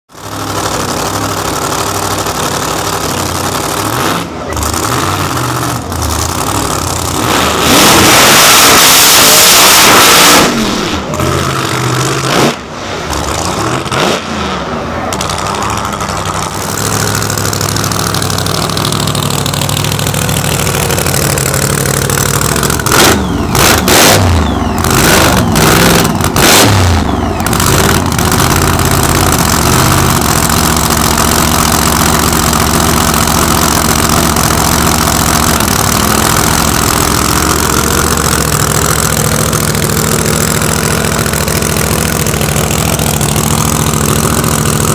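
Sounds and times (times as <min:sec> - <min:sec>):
engine revving and idling: 0:00.1 - 0:44.9
truck engine burnout: 0:00.1 - 0:44.9.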